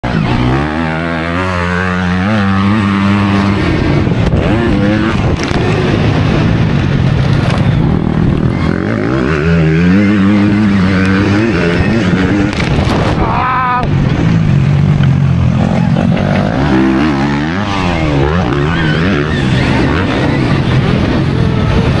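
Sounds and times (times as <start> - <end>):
wind rush and track noise: 0.0 - 22.0.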